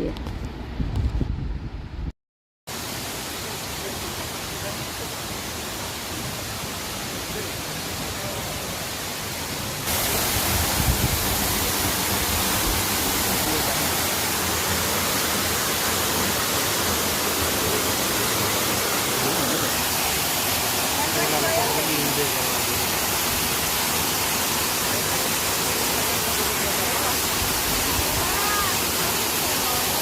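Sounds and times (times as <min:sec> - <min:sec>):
waterfall roaring: 0:02.7 - 0:30.0.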